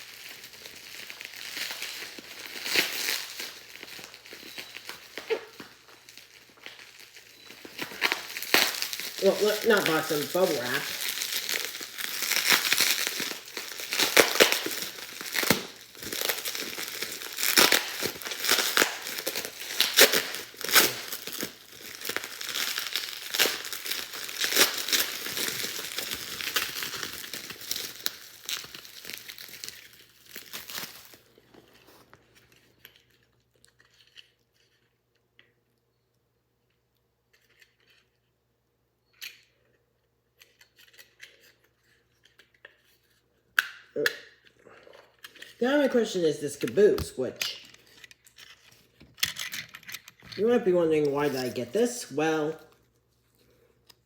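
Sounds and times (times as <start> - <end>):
bubble wrap crinkling: 0.0 - 35.1, 45.0 - 54.0.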